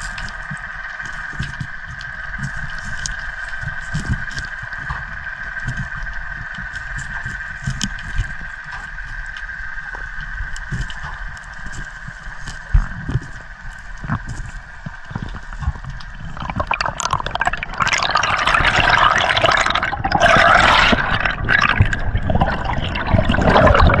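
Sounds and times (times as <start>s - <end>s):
water splashing and gurgling: 0.0s - 24.0s.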